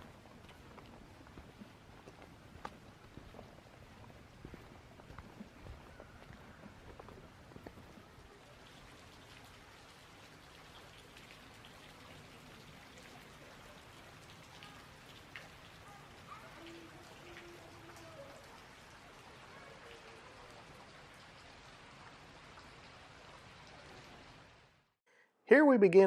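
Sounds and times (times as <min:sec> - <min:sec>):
water drops pattering: 0:00.0 - 0:24.1.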